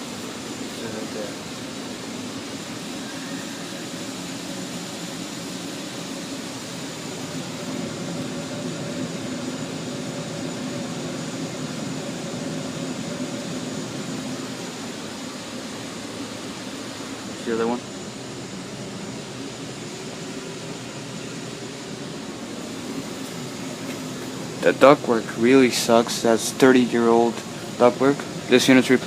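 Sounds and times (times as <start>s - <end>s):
air conditioning fan rushing: 0.0s - 29.0s
low even hum: 0.0s - 29.0s.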